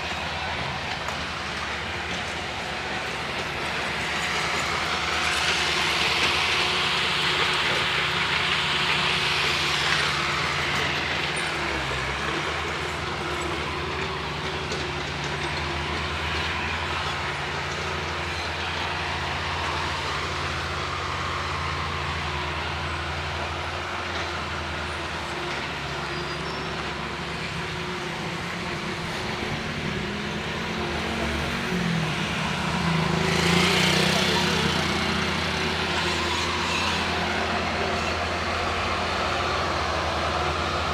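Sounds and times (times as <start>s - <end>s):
heavy vehicle engine drone: 0.0s - 40.9s.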